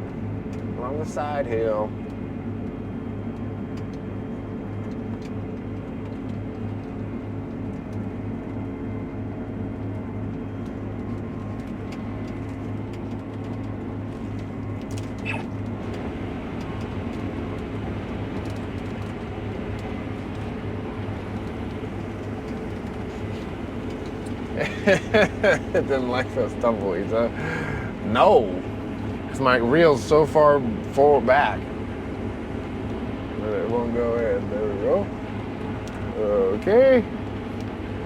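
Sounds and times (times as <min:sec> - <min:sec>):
combine engine and threshing drone: 0:00.0 - 0:38.0.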